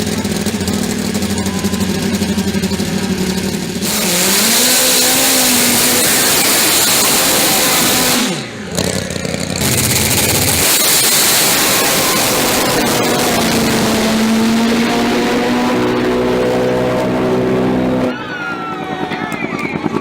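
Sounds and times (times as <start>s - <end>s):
engine revving: 0.0s - 18.7s
loud rushing noise: 0.0s - 19.3s.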